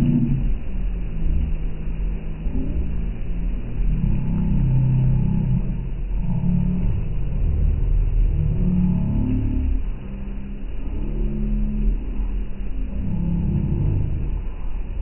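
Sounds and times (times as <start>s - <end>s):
boat engine drone: 0.0s - 15.0s
water wake washing: 0.0s - 15.0s.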